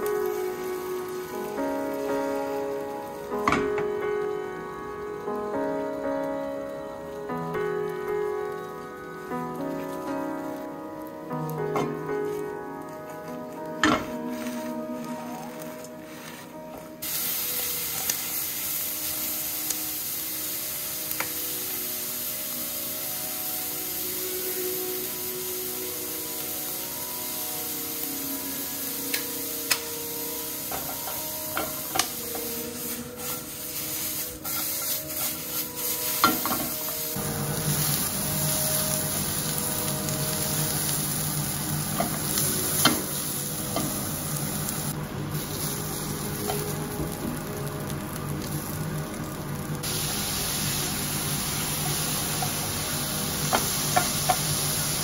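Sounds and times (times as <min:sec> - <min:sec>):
food sizzling in a hot pan: 0:00.0 - 0:55.0.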